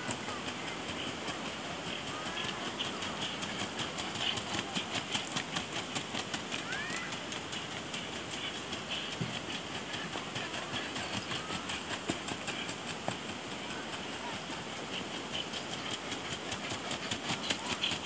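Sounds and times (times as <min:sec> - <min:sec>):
hoofbeats on sandy ground: 0:00.0 - 0:18.0.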